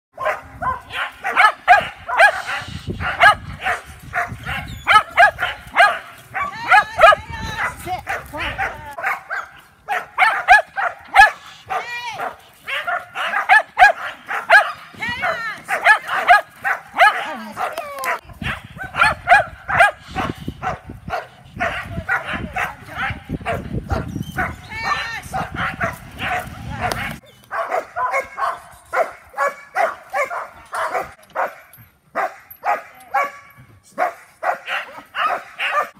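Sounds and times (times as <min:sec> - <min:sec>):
dog barking: 0:00.2 - 0:35.9.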